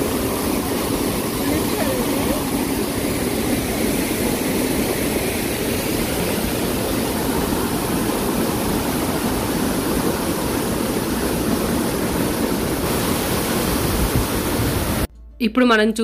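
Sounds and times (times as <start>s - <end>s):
waterfall roaring: 0.0s - 15.1s.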